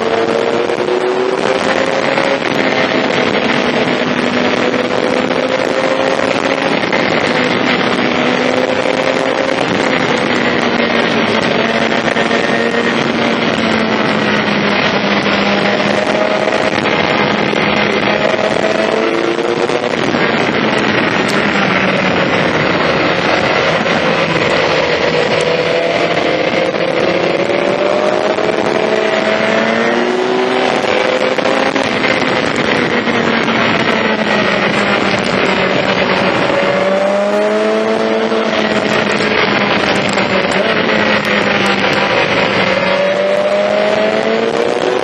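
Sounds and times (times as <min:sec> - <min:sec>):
motorcycle engine revving: 0:00.0 - 0:45.0
wind noise: 0:00.0 - 0:45.0.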